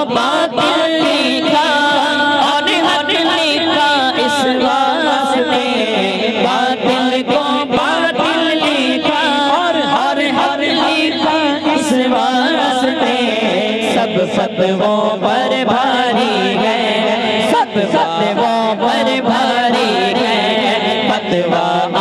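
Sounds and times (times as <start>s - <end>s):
voices chanting together: 0.0s - 22.0s.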